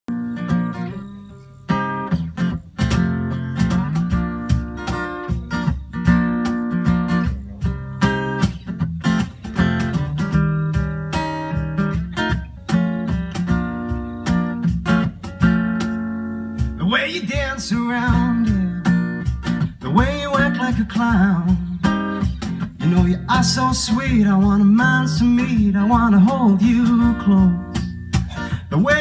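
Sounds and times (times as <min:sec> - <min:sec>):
acoustic guitar strumming: 0:00.1 - 0:29.0
cajon beat: 0:00.1 - 0:29.0.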